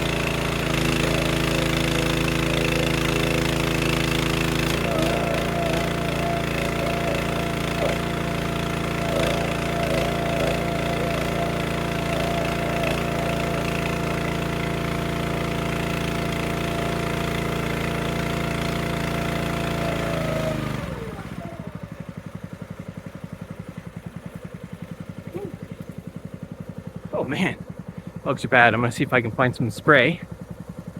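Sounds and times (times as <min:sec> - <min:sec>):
wood splitter engine running: 0:00.0 - 0:30.9.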